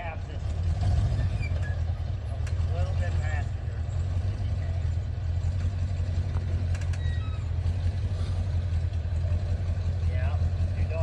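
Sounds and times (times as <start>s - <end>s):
vehicle engine at low revs: 0.0s - 11.0s.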